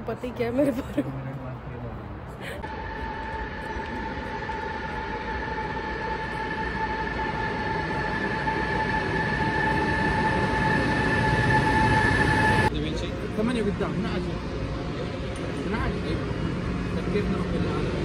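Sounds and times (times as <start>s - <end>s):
electric train rumble: 2.6s - 18.0s
high-pitched whine: 2.6s - 18.0s.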